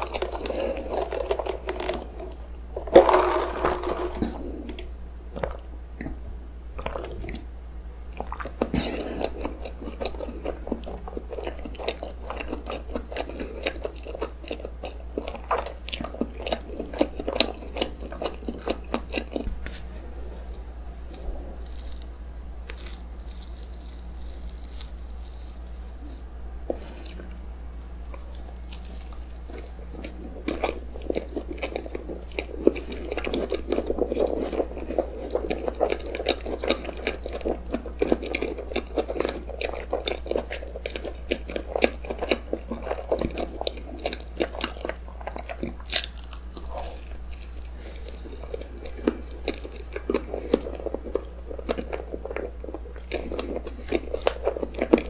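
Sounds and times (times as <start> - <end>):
steady low hum: 0.0 - 55.0
close chewing with mouth clicks: 8.1 - 19.5, 21.0 - 55.0.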